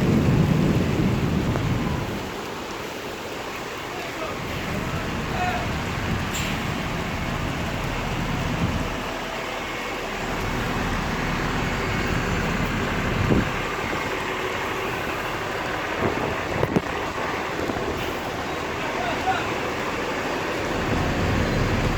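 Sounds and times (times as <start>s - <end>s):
steady rain: 0.0s - 21.9s
vehicles hissing on wet streets: 0.0s - 21.9s.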